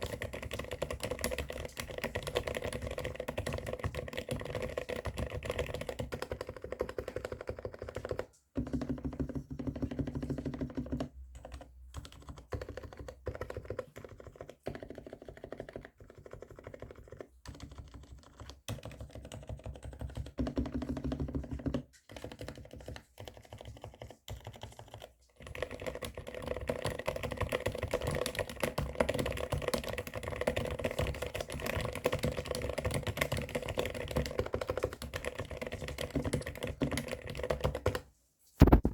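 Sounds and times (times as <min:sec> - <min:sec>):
muted mechanical keyboard typing: 0:00.0 - 0:38.0.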